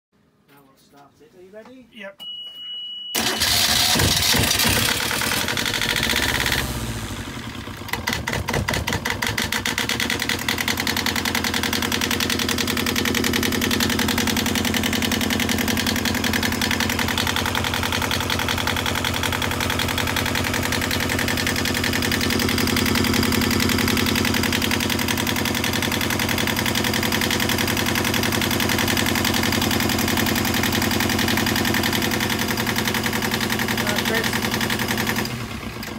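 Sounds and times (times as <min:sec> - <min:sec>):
diesel engine starting and idling: 0:03.2 - 0:35.9.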